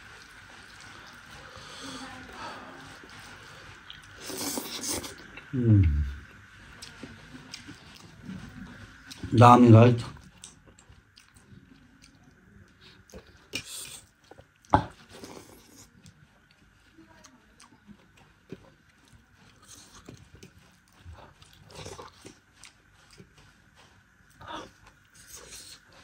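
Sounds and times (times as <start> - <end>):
chewing and wet mouth noises: 0.0 - 26.0.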